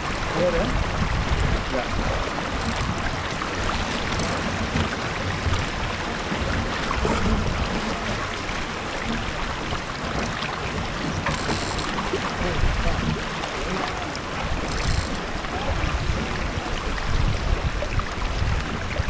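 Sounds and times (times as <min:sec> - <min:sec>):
water rushing along hull: 0:00.0 - 0:19.0
wind rumbling on microphone: 0:00.0 - 0:19.0.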